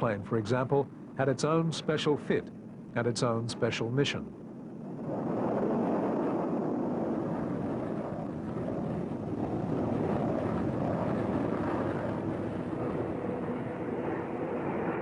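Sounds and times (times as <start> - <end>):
propeller engines droning: 0.0 - 15.0.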